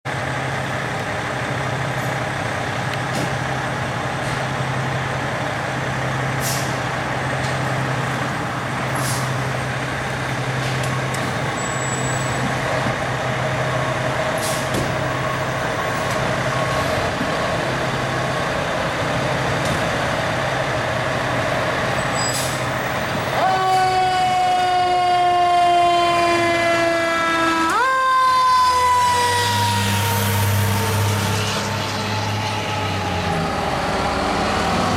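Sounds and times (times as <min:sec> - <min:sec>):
diesel engines idling: 0:00.1 - 0:28.1
fire engine siren wailing: 0:00.1 - 0:34.9.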